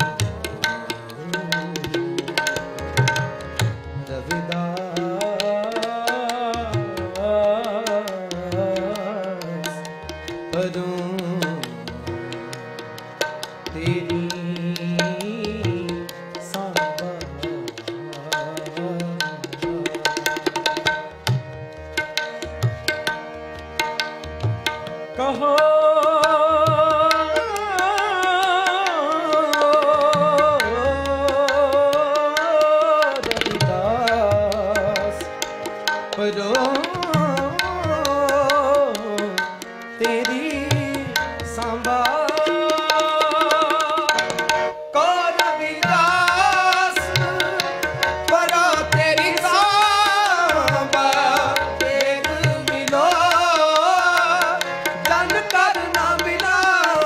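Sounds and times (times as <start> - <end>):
man singing ornamented melody: 0.0 - 21.2, 24.7 - 57.0
harmonium tones: 0.0 - 57.0
tabla rhythm: 0.0 - 57.0.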